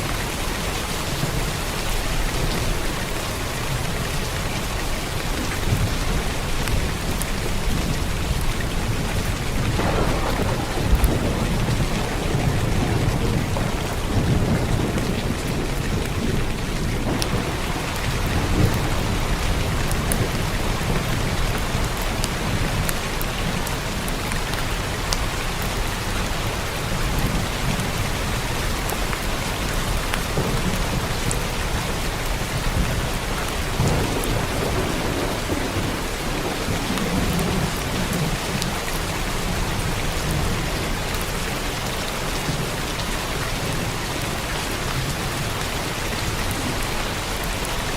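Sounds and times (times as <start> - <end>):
low thunder rumbling: 0.0 - 47.9
rain falling on a roof: 0.0 - 47.9.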